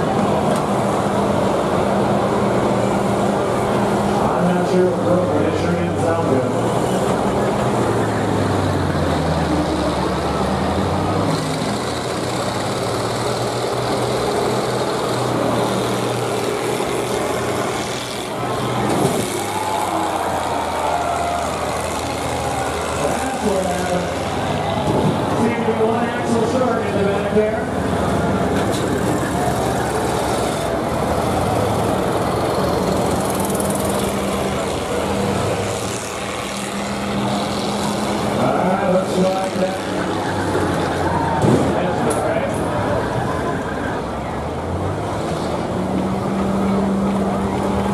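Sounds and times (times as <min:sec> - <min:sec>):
heavy engines droning: 0:00.0 - 0:47.9.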